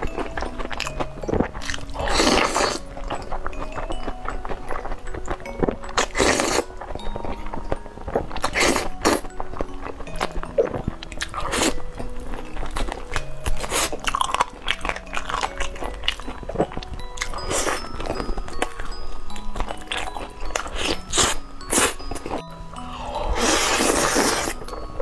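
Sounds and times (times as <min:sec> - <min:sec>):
noodles slurped and chewed: 0:00.0 - 0:25.0
soft background music: 0:00.0 - 0:25.0.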